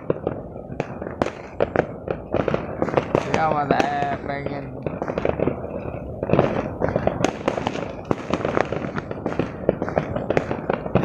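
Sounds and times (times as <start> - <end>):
firecracker crackle: 0.0 - 11.0
fireworks bangs and pops: 0.0 - 11.0.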